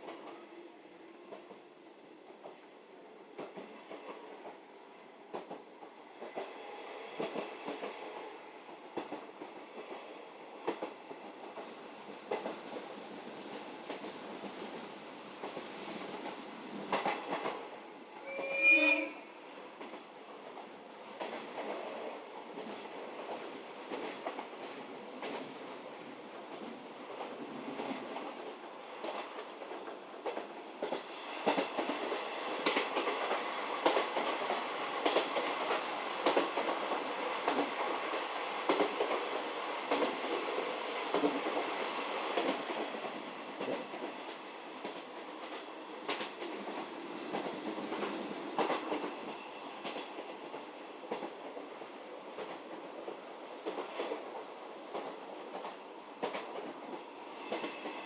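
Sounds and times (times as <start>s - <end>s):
train running noise: 5.2s - 58.0s.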